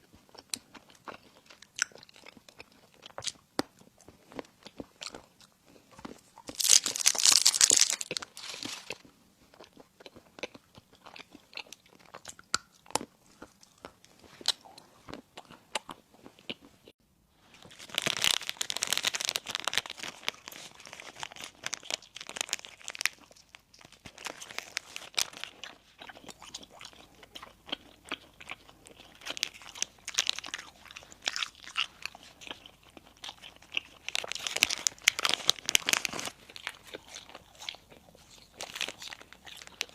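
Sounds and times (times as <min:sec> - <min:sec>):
crunching bites of crispy bread: 0:00.3 - 0:16.7, 0:17.6 - 0:39.9.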